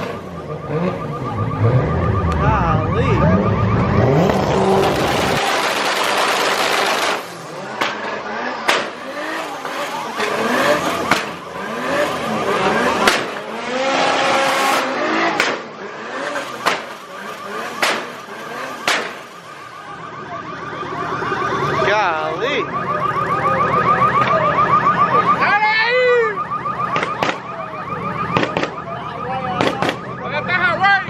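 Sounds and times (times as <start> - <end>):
exhaust bangs: 0.0 - 22.2, 26.4 - 30.8
car engine revving: 0.0 - 25.0
car alarm warbling: 0.0 - 31.0.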